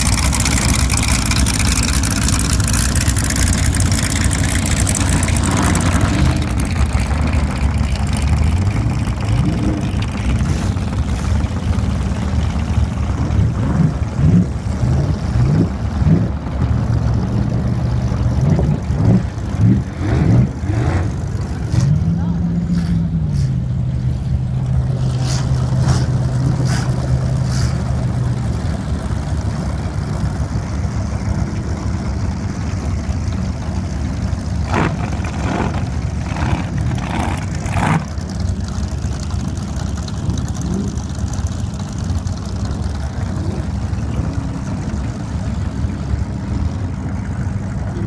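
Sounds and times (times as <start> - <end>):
motorboat engines rumbling: 0.0 - 48.0.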